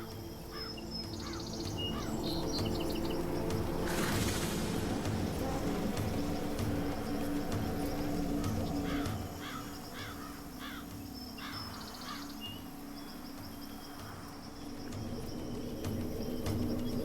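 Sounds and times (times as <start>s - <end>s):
low steady drone: 0.0s - 17.0s
outdoor background noise: 0.0s - 17.0s.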